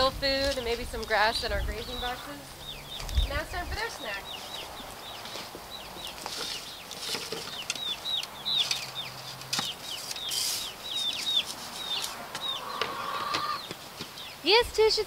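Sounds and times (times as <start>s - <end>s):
young chickens cheeping: 0.0s - 15.0s.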